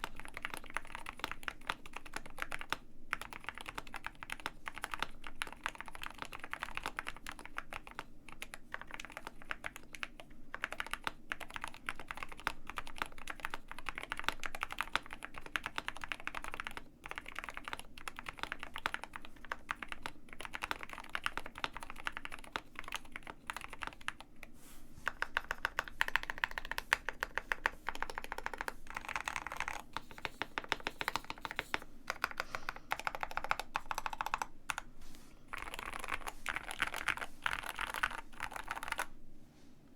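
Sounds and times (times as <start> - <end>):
fast mechanical keyboard typing: 0.0 - 24.4, 25.1 - 34.9, 35.5 - 39.1.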